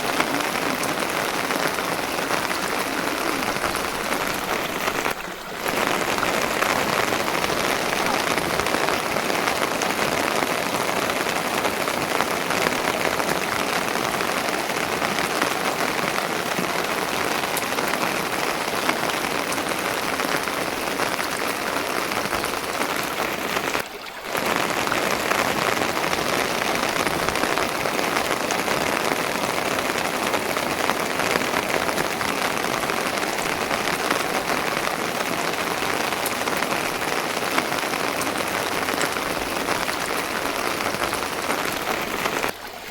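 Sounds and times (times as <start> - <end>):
dense patter of rain: 0.0 - 42.9.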